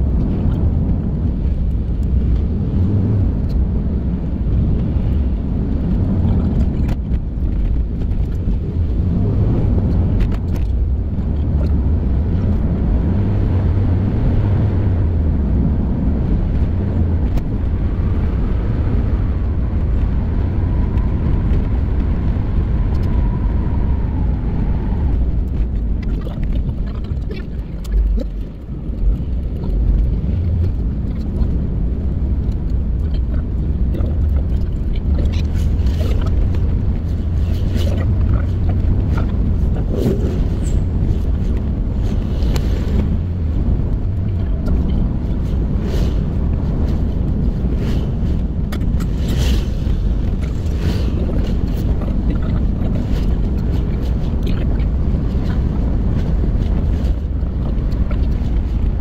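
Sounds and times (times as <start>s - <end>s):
vehicle road and engine rumble: 0.0s - 59.0s.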